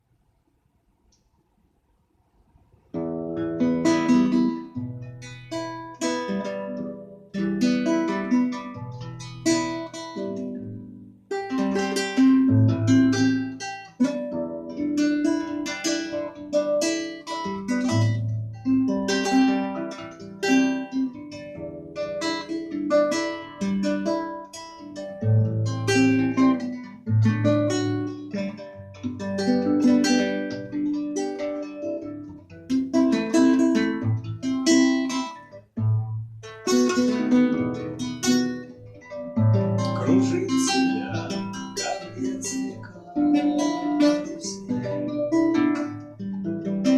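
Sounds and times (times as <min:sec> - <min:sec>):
guitar playing chords: 0:02.9 - 0:46.9.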